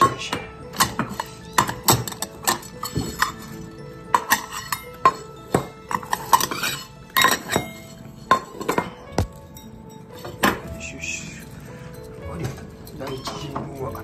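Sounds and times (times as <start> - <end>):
metal bowls clinking on floor: 0.0 - 14.0.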